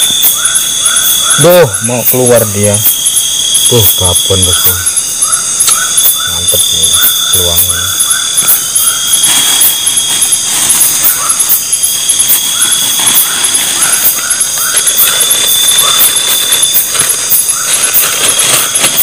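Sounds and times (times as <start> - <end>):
fast pulsing insect chirp: 0.0 - 19.0
insects trilling: 0.0 - 19.0
short chirping calls: 0.0 - 19.0.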